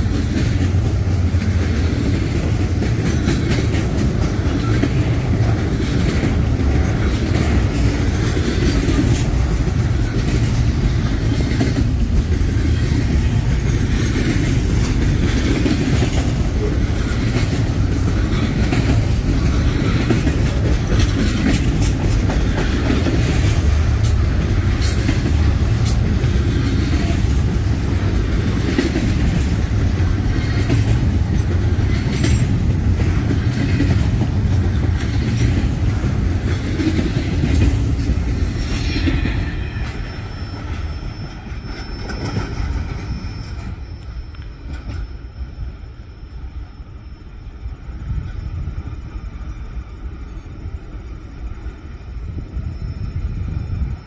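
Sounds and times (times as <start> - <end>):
wheels clicking over rail joints: 0.0 - 45.1
train wheels rumbling on rail: 0.0 - 54.0.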